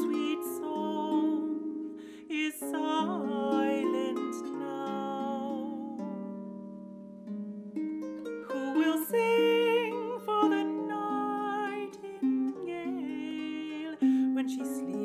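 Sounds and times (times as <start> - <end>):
wordless voice singing: 0.0 - 6.1, 8.4 - 15.0
harp playing: 0.0 - 15.0.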